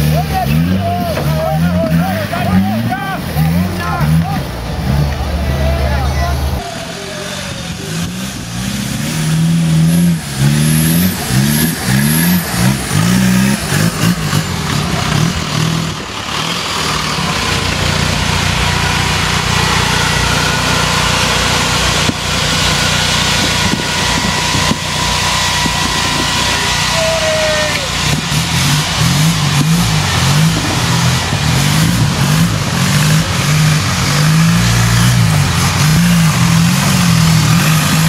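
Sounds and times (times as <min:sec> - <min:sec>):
engine revving: 0:00.0 - 0:38.0.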